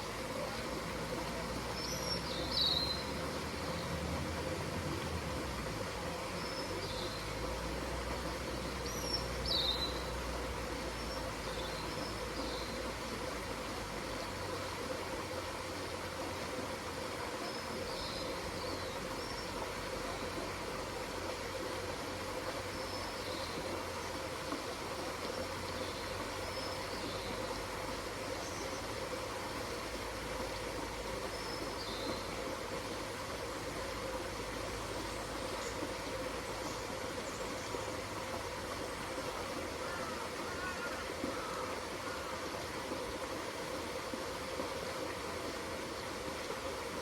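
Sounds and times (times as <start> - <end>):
pond water wash: 0.0 - 47.0.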